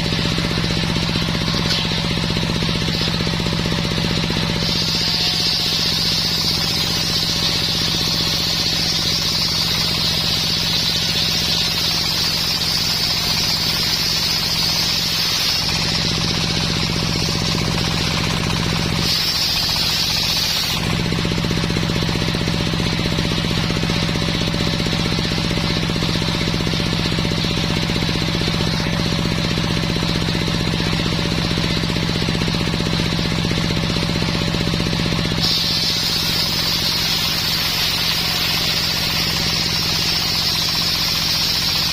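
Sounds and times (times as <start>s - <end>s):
engine low hum: 0.0s - 41.9s
saw high-pitched whine: 0.0s - 41.9s.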